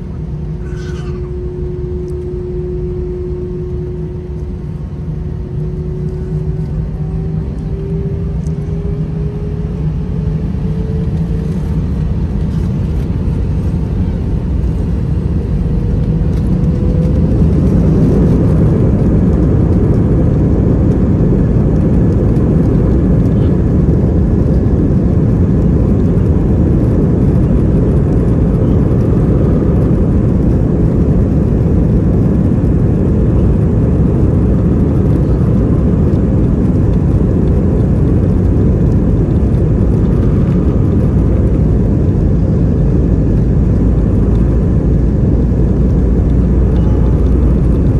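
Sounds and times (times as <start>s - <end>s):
aircraft rolling noise: 0.0s - 47.9s.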